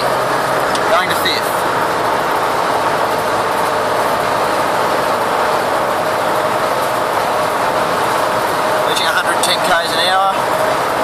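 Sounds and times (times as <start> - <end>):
road and tyre noise: 0.0 - 11.0
van engine running steadily: 0.0 - 11.0.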